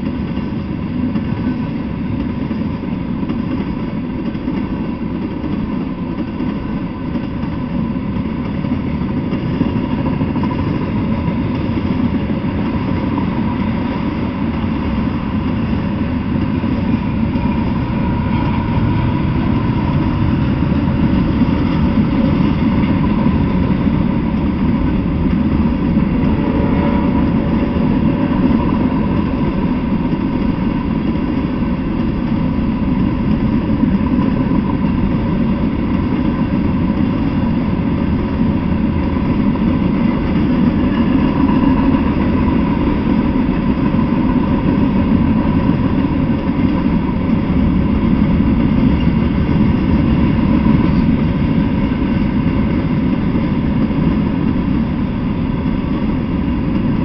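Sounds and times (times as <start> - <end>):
freight train rumbling on rails: 0.0 - 57.0.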